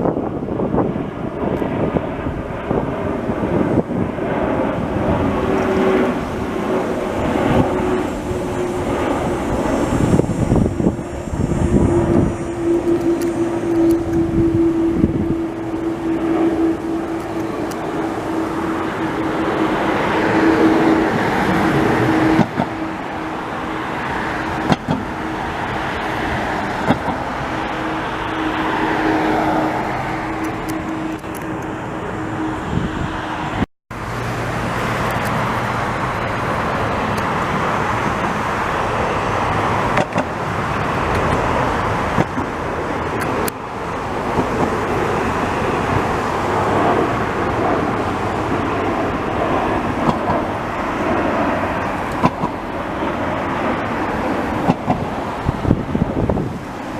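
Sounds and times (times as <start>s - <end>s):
engine roar: 0.0s - 56.9s
low hum: 0.2s - 56.0s.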